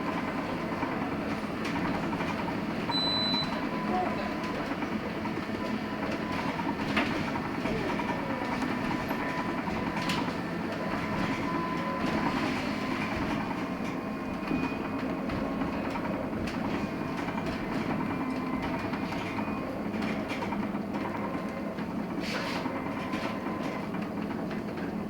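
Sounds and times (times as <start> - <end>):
bus road and running noise: 0.0 - 25.0.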